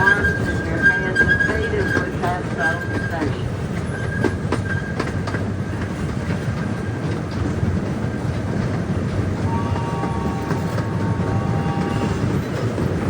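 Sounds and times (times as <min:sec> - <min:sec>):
train rumbling on track: 0:00.0 - 0:13.0
wheels clicking over rail joints: 0:00.0 - 0:13.0.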